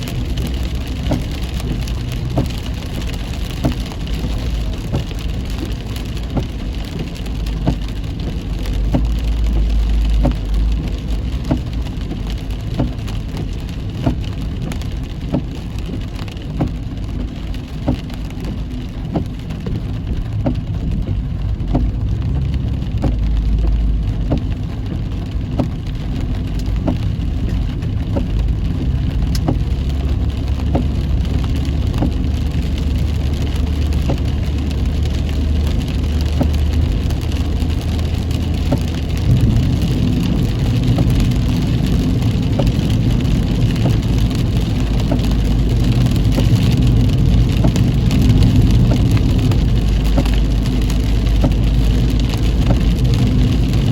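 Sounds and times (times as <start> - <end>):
heavy rain hitting a car: 0.0 - 53.9
tyre and engine rumble: 0.0 - 53.9.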